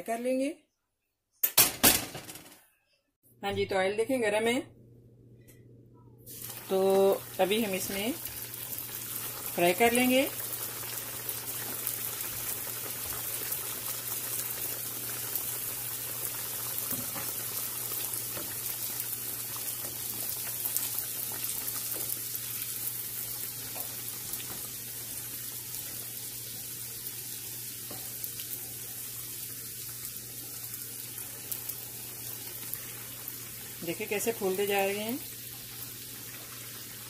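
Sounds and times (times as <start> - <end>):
food deep-frying in oil: 6.3 - 37.0.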